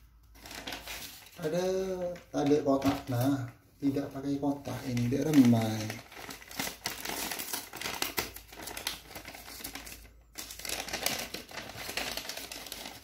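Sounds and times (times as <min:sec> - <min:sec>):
paper bag crinkling: 0:00.3 - 0:13.0.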